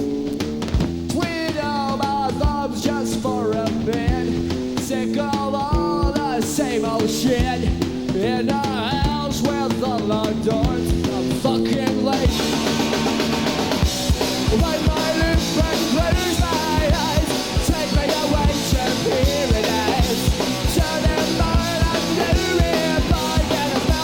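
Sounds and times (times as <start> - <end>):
drum kit beat: 0.0 - 24.0
electric guitar and bass: 0.0 - 24.0
person singing: 1.1 - 12.8, 14.2 - 24.0.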